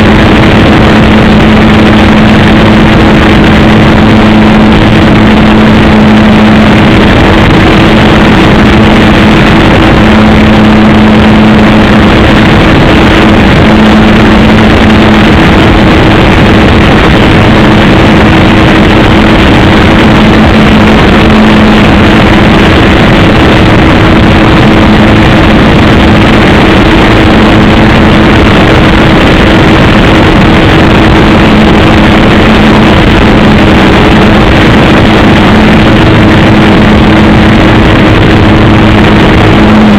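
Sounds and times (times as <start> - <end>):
model airplane engine droning: 0.0 - 39.9.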